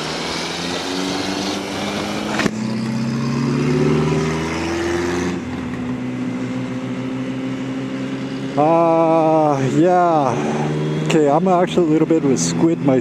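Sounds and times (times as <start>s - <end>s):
motorcycle engine pulling away: 0.0s - 12.1s.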